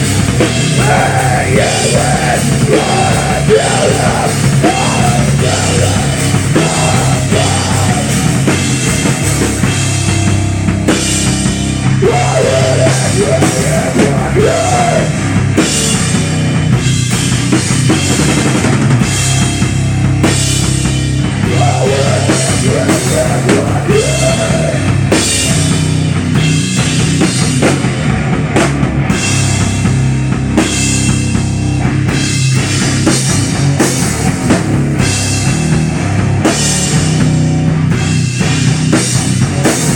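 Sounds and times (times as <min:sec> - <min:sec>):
bass guitar: 0:00.0 - 0:39.9
distorted electric guitar: 0:00.0 - 0:39.9
drum kit with cymbals: 0:00.0 - 0:39.9.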